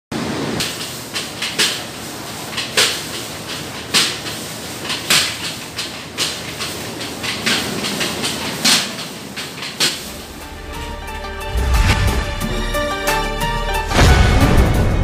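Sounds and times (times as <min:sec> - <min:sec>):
gas burner rushing: 0:00.2 - 0:15.0.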